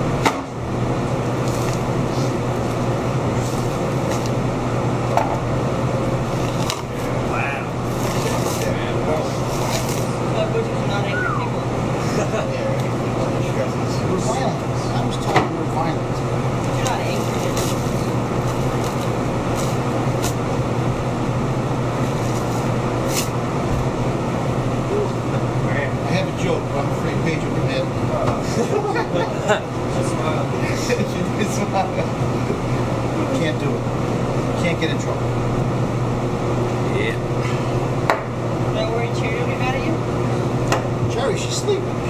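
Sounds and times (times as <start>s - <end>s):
ventilation hum: 0.0s - 42.0s.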